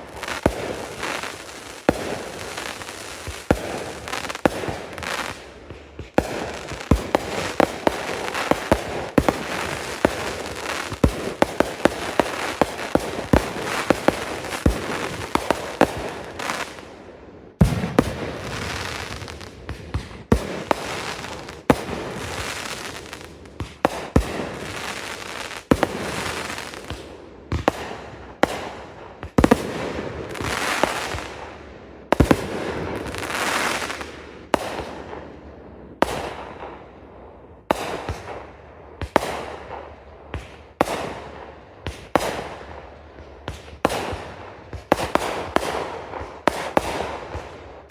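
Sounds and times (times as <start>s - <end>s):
fireworks bangs: 0.0s - 36.9s, 43.4s - 47.9s
crackling hiss of fireworks: 0.0s - 47.9s.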